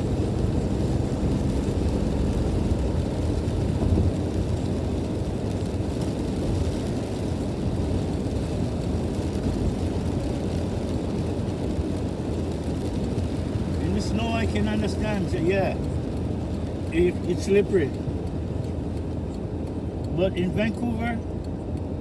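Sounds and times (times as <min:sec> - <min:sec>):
car driving on wet highway: 0:00.0 - 0:22.0.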